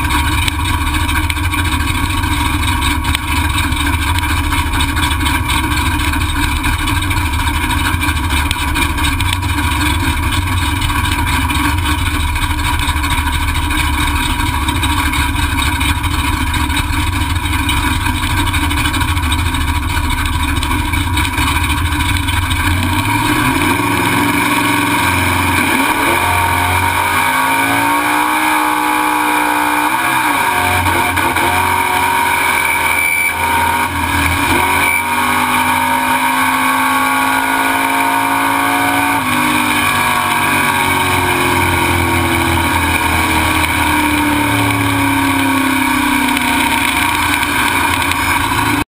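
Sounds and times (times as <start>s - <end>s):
car engine rumbling and revving: 0.0s - 48.9s.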